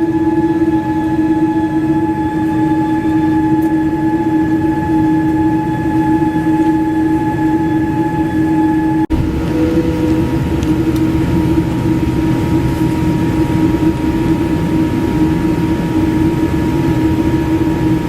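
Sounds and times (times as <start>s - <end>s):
airliner cabin hum: 0.0s - 18.0s.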